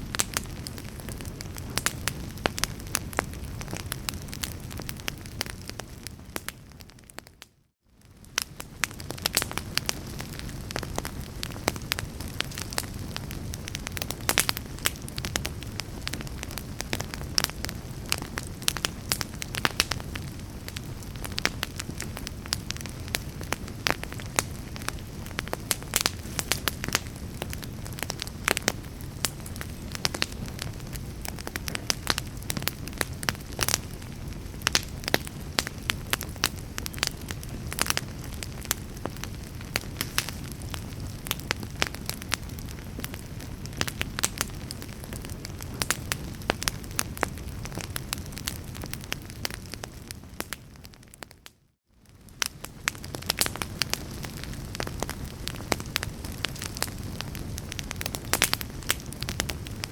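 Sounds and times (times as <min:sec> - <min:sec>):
logs crackling and popping: 0:00.0 - 0:59.9
low rumble of flame: 0:00.0 - 0:59.9.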